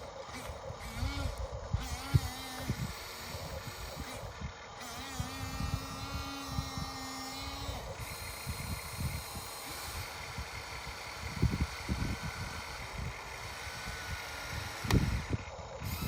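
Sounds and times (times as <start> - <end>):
electric pump motor whining: 0.0 - 16.0.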